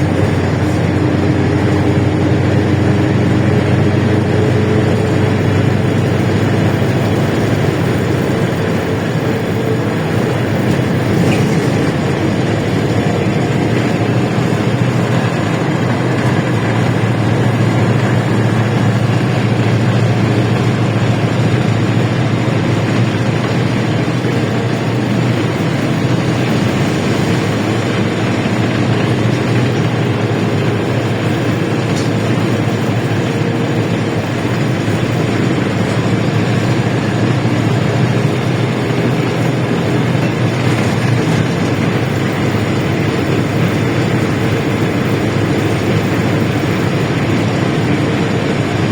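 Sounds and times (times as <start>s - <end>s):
bus engine drone: 0.0s - 48.9s
road and body noise: 0.0s - 48.9s.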